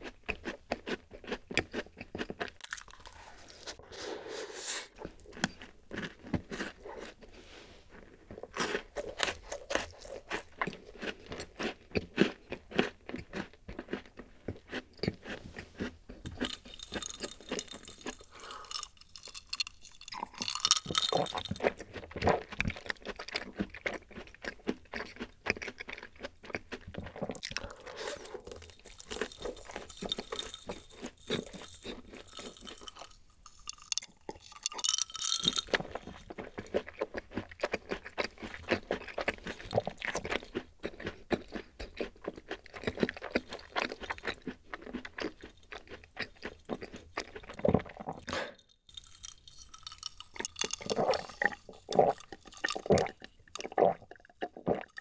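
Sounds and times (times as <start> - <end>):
chewing crisp pastry: 0.0 - 3.9, 4.9 - 55.0.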